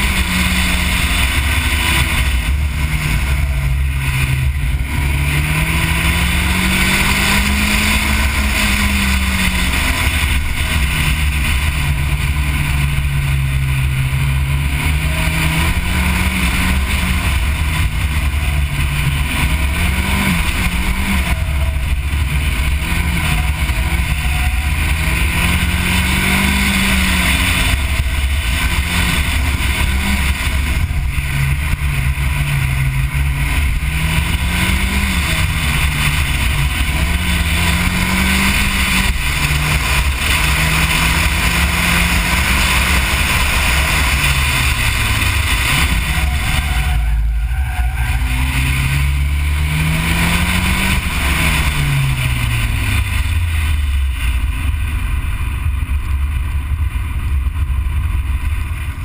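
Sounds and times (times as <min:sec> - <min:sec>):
car engine revving hard: 0:00.0 - 0:55.1
low rumble: 0:00.0 - 0:59.0.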